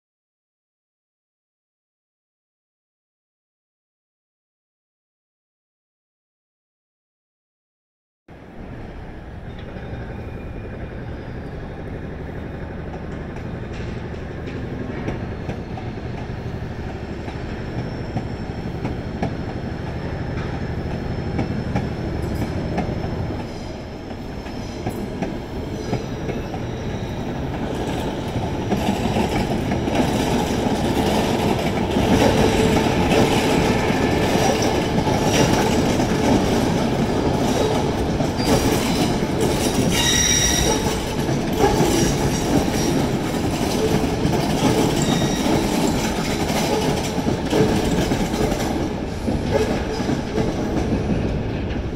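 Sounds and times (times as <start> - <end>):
train running on tracks: 8.3 - 51.9
wheels clacking and squealing: 9.4 - 23.7, 24.4 - 51.9.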